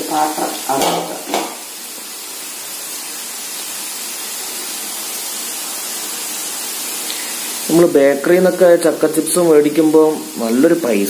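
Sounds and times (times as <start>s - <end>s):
deep-frying in oil sizzling: 0.0s - 11.0s.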